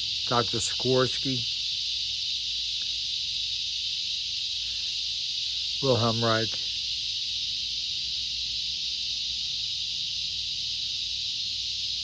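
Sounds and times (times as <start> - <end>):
cicadas calling: 0.0 - 12.0.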